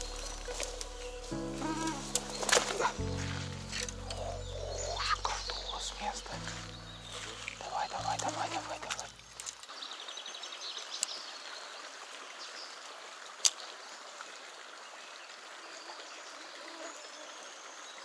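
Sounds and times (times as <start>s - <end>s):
river flowing and trickling: 0.0s - 18.0s.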